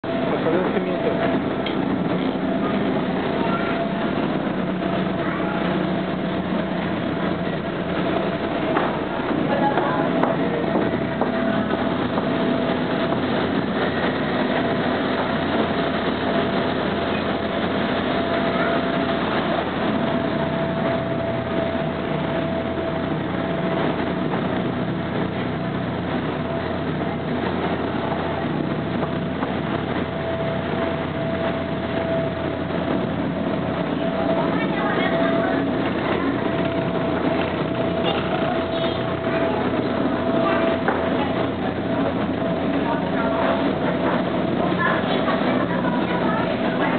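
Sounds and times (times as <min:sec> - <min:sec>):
boat engine running: 0:00.0 - 0:46.9
wind and water rushing: 0:00.0 - 0:46.9.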